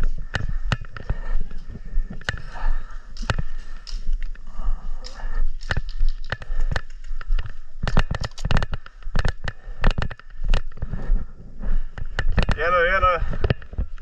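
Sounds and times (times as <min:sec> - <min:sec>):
sharp cracks and pops: 0:00.0 - 0:11.1, 0:11.8 - 0:14.0.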